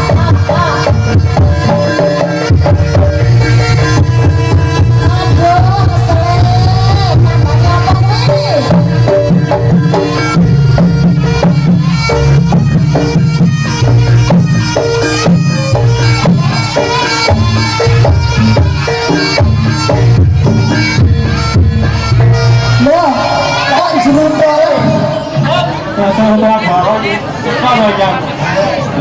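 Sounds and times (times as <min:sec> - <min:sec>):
hand drums: 0:00.0 - 0:25.6
ringing pitched percussion: 0:00.0 - 0:25.6.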